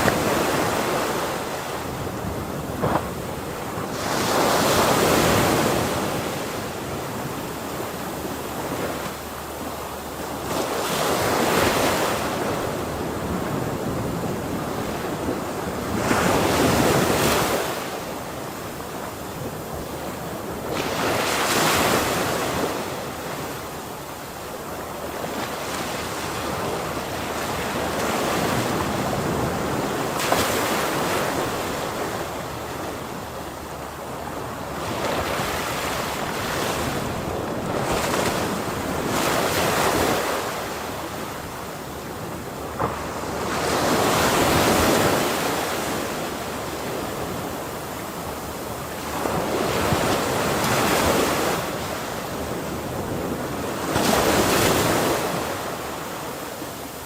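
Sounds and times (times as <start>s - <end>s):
ocean waves breaking: 0.0s - 57.0s
wind noise on microphone: 0.0s - 57.0s.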